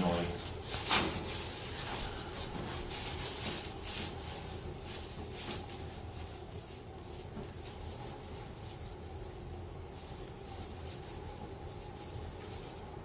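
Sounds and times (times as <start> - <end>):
soft rustling and rubbing: 0.0 - 13.0.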